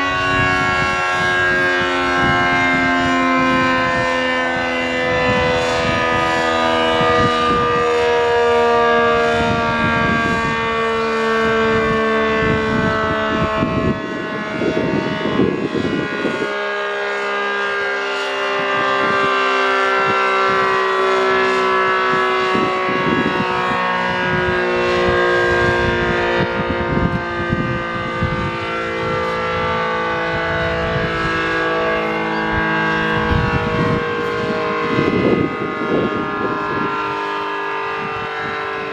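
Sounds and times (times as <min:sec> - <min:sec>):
warning siren winding down: 0:00.0 - 0:38.9
gusty low rumble: 0:00.2 - 0:08.5, 0:09.2 - 0:16.5, 0:20.0 - 0:37.1.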